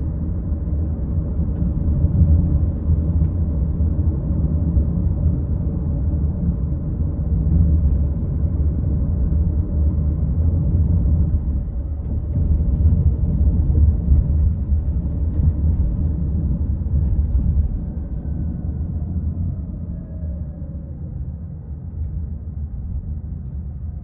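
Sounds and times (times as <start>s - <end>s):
car engine rumble: 0.0s - 24.0s
tyre road noise: 0.0s - 24.0s.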